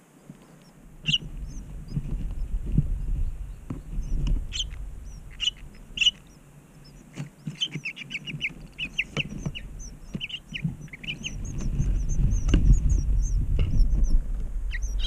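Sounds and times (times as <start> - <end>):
nestlings begging chirps: 0.5 - 15.0.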